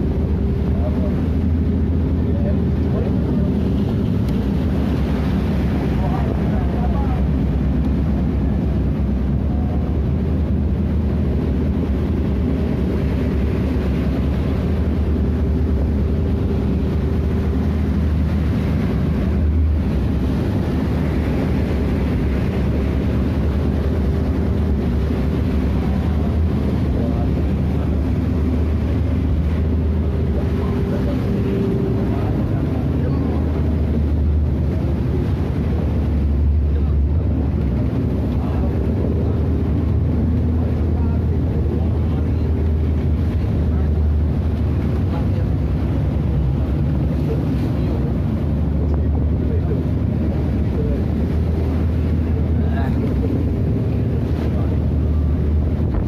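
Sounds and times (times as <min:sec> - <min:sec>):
boat engine drone: 0:00.0 - 0:56.0
water rushing against hull: 0:00.0 - 0:56.0.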